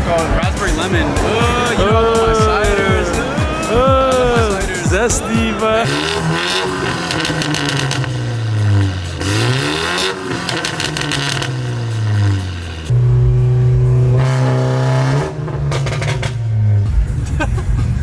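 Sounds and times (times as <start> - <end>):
exhaust pops and crackles: 0.0 - 17.4
car engine revving: 0.0 - 18.0.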